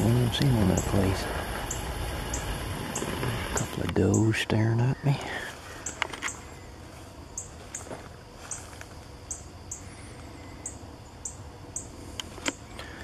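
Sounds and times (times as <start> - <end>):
small bird chirping: 0.0 - 8.7, 9.3 - 11.9
outdoor background noise: 0.0 - 13.0.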